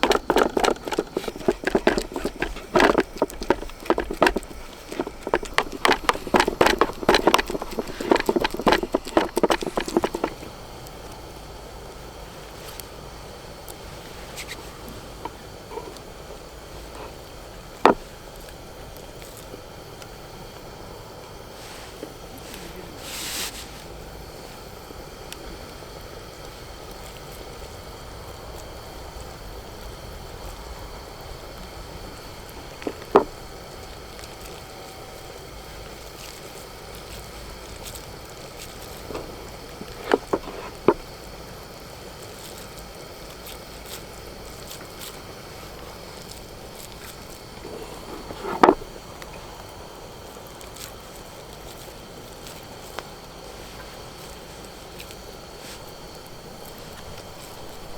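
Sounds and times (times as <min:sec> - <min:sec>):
steady low hiss: 0:00.0 - 0:57.9.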